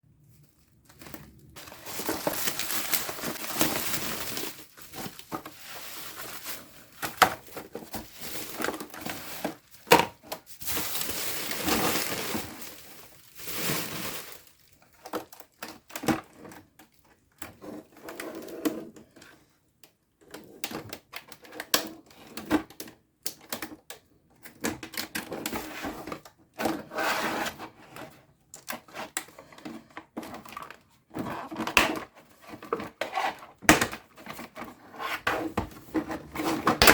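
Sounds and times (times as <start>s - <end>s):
cardboard and plastic rustling: 0.1s - 18.4s, 25.2s - 36.9s.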